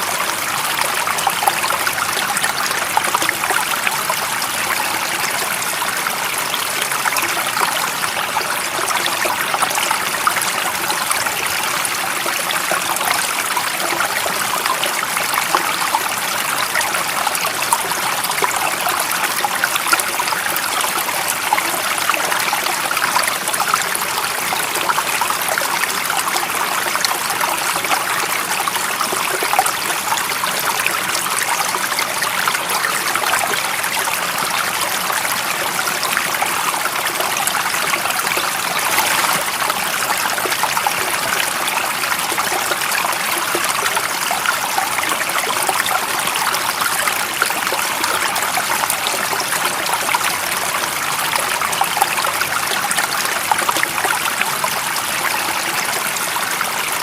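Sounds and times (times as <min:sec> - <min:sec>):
stream running water: 0:00.0 - 0:57.0.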